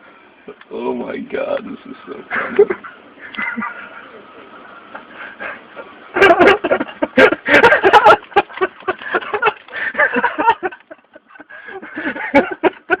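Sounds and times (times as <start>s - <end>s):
people laughing: 2.3s - 13.0s.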